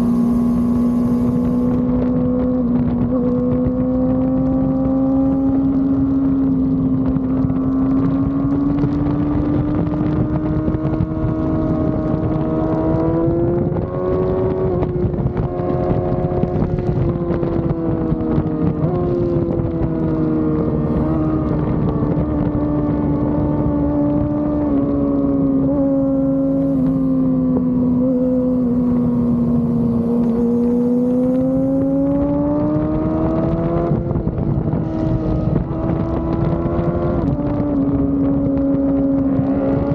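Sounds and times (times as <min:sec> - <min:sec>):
motorcycle engine at high revs: 0:00.0 - 0:39.9
wind buffeting microphone: 0:00.0 - 0:39.9.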